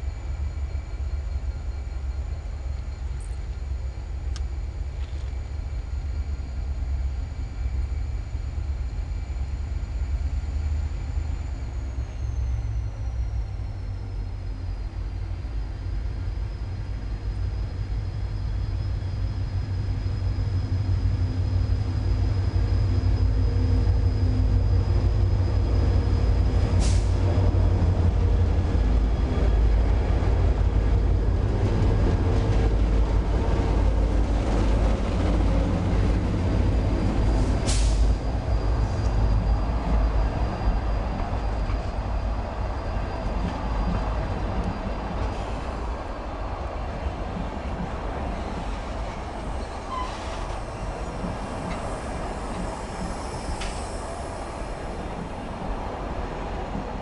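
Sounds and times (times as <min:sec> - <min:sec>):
locomotive engine rumble: 0:00.0 - 0:57.0.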